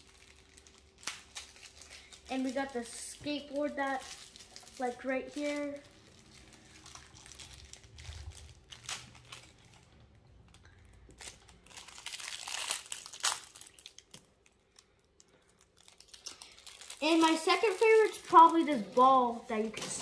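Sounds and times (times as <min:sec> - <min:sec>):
plastic crinkling and rustling: 0:00.0 - 0:20.0.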